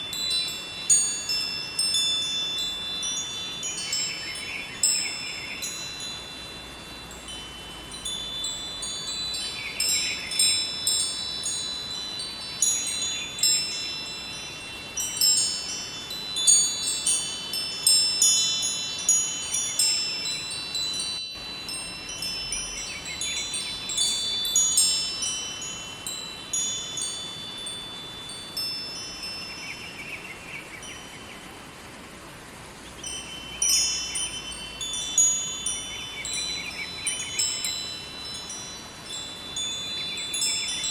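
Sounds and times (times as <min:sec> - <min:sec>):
metal wind chimes ringing: 0:00.0 - 0:31.8, 0:32.5 - 0:40.9
river rushing: 0:00.0 - 0:40.9.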